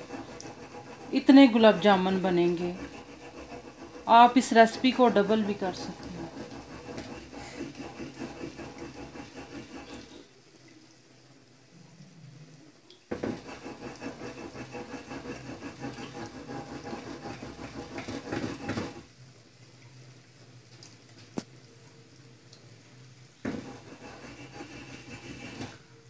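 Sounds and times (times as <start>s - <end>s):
oil sizzling and bubbling: 0.0s - 26.0s.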